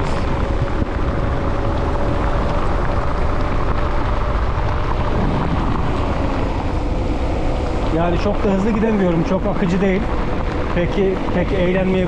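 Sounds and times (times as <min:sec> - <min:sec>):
bike tyres humming on asphalt: 0:00.0 - 0:12.0
wind rushing over microphone: 0:00.0 - 0:12.0.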